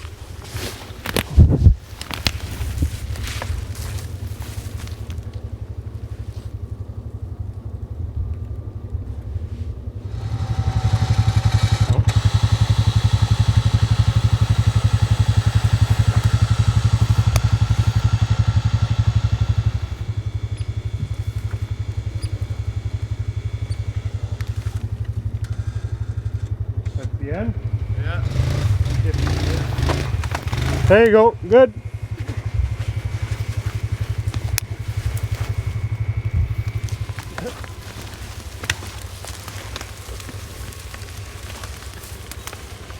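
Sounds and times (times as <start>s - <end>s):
vehicle engine idling and revving: 0.0s - 42.9s.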